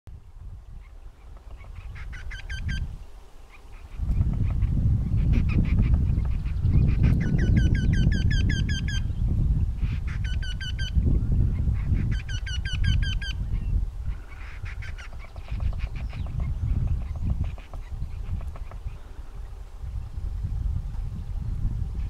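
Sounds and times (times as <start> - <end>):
birds ringing courtship calls: 0.7 - 19.6.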